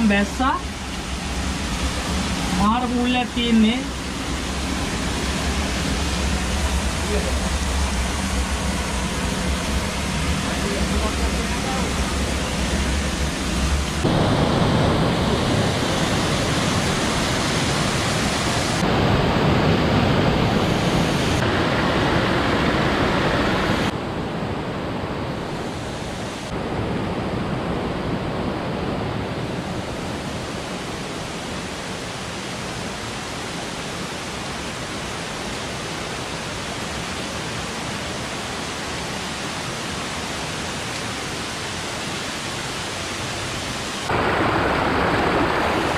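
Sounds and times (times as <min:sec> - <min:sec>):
stream and waterfall rushing: 0:00.0 - 0:45.9.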